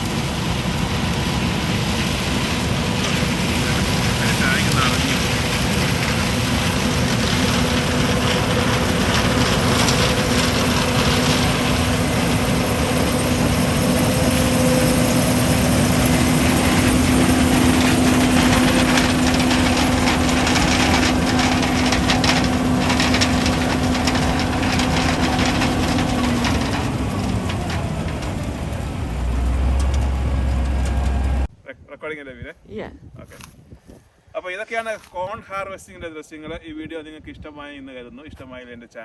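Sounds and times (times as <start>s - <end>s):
combine harvester running: 0.0s - 31.5s.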